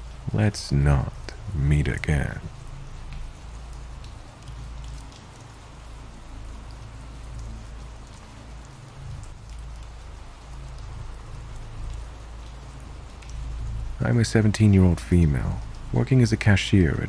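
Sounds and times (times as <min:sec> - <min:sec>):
rain drops ticking: 0:00.0 - 0:17.0
rain hiss: 0:00.0 - 0:17.0.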